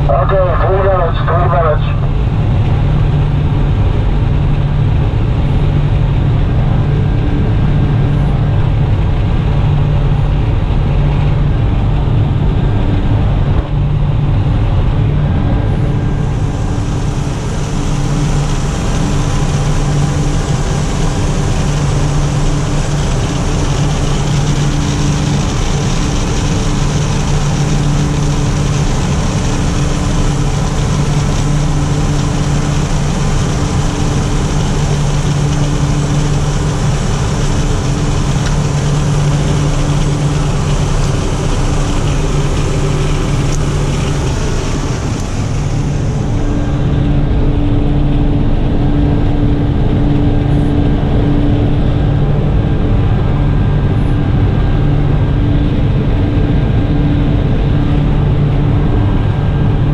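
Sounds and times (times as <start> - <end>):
aircraft engine drone in cabin: 0.0 - 59.9.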